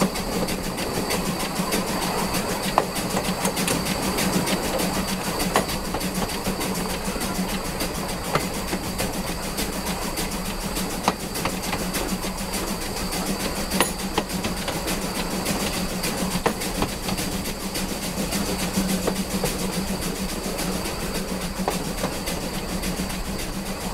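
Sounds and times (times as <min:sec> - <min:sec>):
steam locomotive rumbling: 0:00.0 - 0:23.9
wheels clicking over rail joints: 0:00.0 - 0:23.9.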